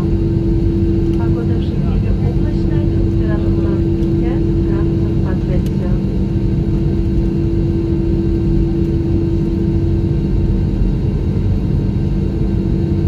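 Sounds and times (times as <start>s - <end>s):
steady humming tone: 0.0s - 13.0s.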